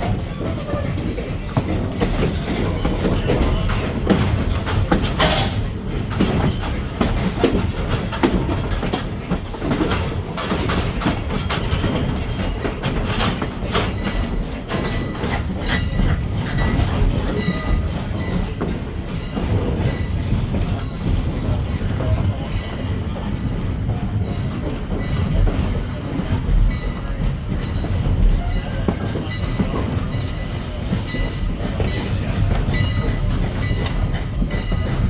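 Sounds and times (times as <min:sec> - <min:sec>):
rail-joint clicks and knocks: 0:00.0 - 0:35.0
railroad car rumble: 0:00.0 - 0:35.0.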